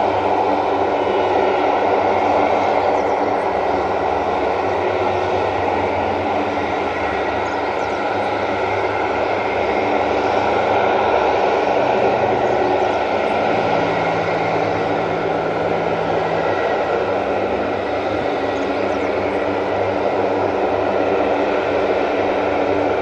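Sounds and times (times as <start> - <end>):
aircraft engines running: 0.0 - 23.0
steady engine tones: 0.0 - 23.0.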